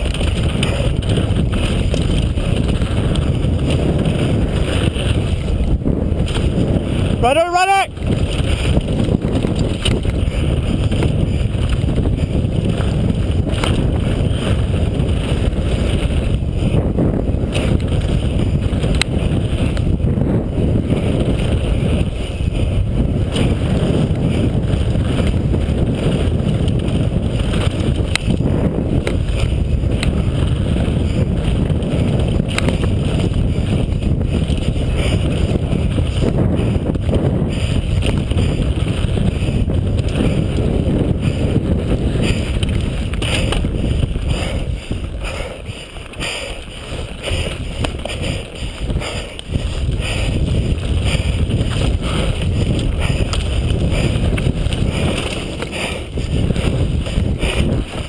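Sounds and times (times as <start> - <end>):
mountain bike rumbling and rattling: 0.0 - 58.0
wind buffeting microphone: 0.0 - 58.0.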